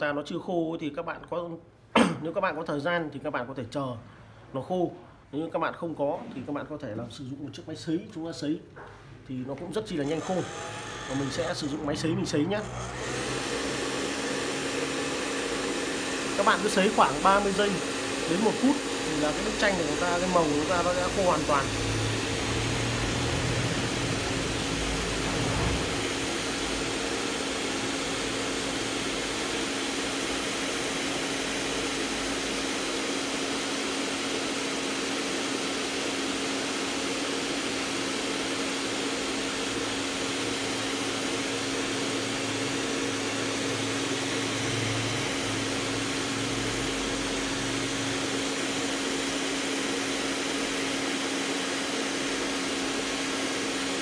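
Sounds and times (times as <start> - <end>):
hair dryer running: 9.9 - 54.0.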